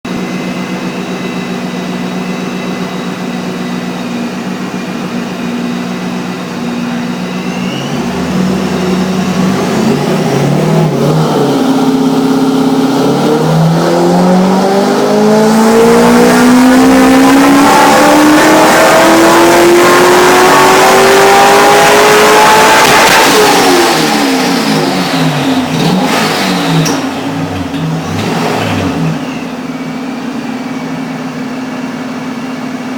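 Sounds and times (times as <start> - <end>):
car engine revving on dyno: 0.1 - 32.9.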